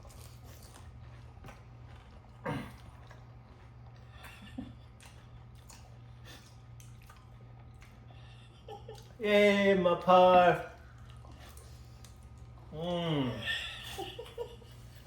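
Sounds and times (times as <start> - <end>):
chewing and munching: 0.0 - 15.0
steady low hum: 0.0 - 15.0.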